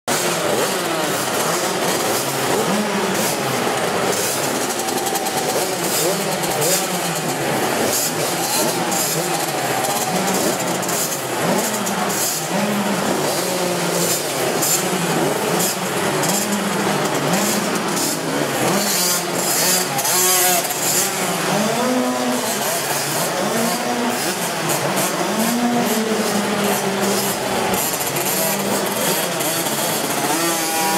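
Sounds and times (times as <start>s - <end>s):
motocross bike engines revving: 0.1s - 30.9s.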